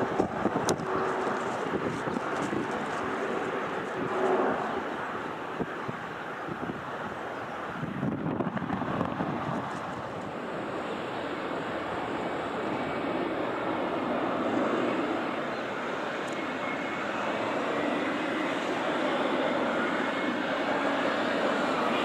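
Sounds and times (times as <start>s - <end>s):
faint jet whine: 0.0s - 22.0s
jet engine rumble: 0.0s - 22.0s.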